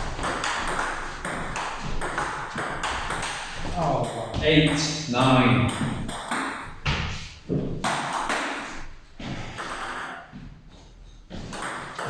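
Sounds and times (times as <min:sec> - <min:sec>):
table tennis ball hits: 0:00.0 - 0:10.4, 0:11.3 - 0:12.0.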